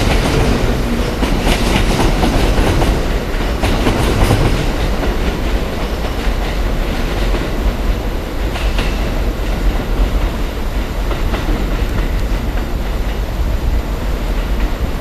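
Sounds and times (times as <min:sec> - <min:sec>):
wheels clicking over rail joints: 0:00.0 - 0:13.2
train rumbling on rails: 0:00.0 - 0:15.0.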